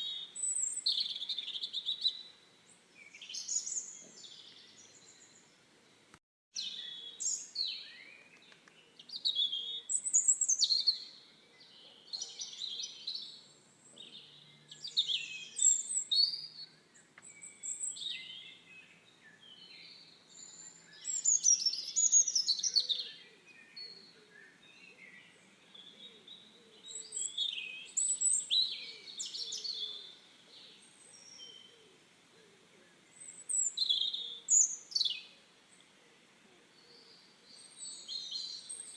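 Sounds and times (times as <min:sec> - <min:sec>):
songbirds chirping and warbling: 0:00.0 - 0:38.9.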